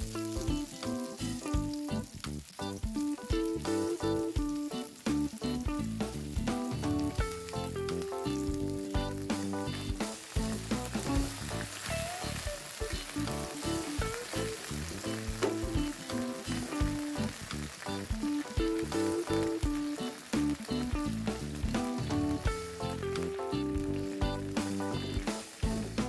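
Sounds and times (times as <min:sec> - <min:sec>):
background music: 0:00.0 - 0:26.0
food sizzling in hot oil: 0:00.0 - 0:26.0.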